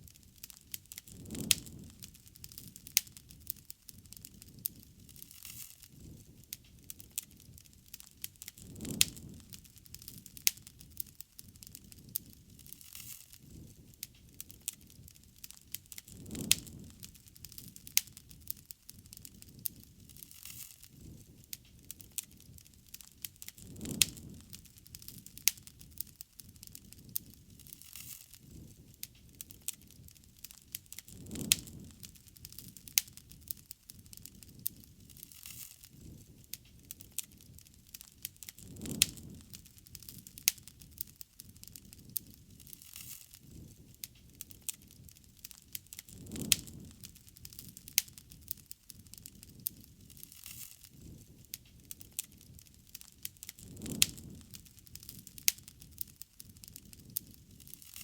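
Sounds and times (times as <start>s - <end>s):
bonfire crackling: 0.0s - 58.0s
low rumble of flame: 0.0s - 58.0s.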